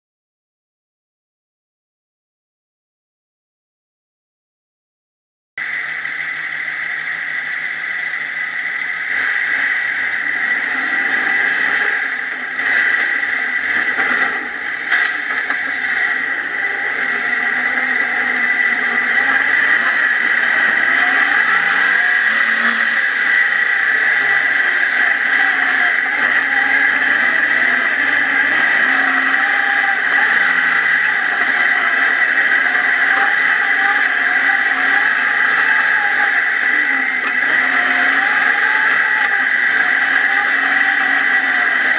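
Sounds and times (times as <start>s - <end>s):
off-road vehicle engine revving: 5.6s - 41.9s.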